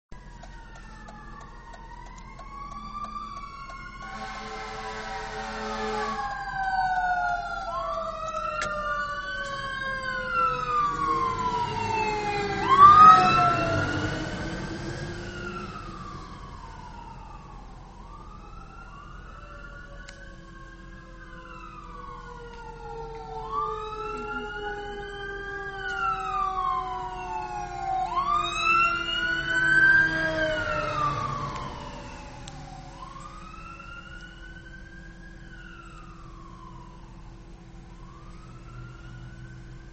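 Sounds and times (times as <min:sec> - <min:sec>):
fire truck sirens wailing: 0:00.1 - 0:39.9.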